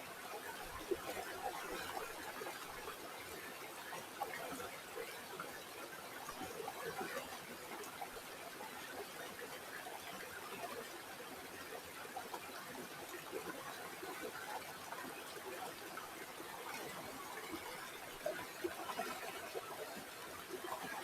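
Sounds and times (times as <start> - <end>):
river water babbling: 0.0 - 21.0.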